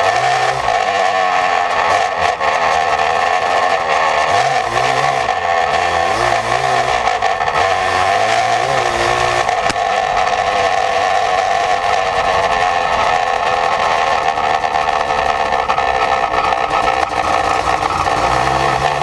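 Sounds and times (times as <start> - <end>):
two-stroke engine revving: 0.0 - 19.0.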